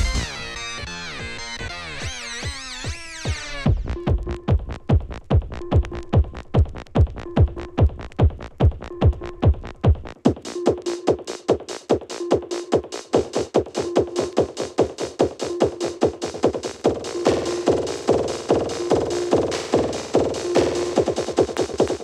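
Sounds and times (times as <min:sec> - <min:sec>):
techno music: 0:00.0 - 0:22.0.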